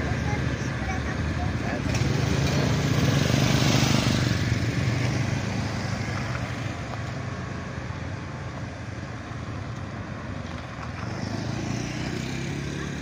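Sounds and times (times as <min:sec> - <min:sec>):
engines humming: 0:00.0 - 0:13.0.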